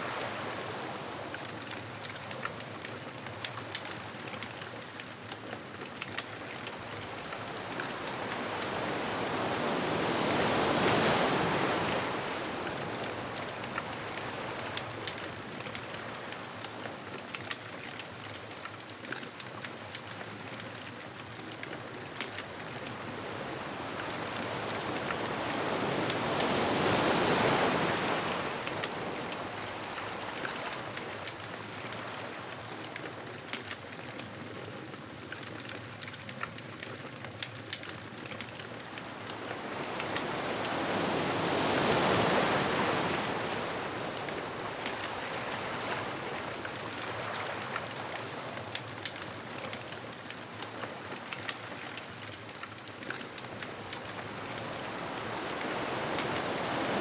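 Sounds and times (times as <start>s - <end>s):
ocean waves breaking on beach: 0.0s - 36.8s, 37.5s - 57.0s
bonfire crackling and popping: 0.5s - 9.6s, 12.8s - 26.2s, 28.0s - 41.6s, 43.5s - 56.8s.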